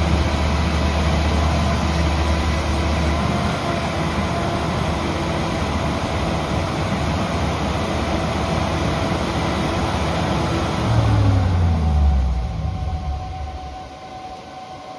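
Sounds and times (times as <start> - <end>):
generator engine running: 0.0 - 14.5.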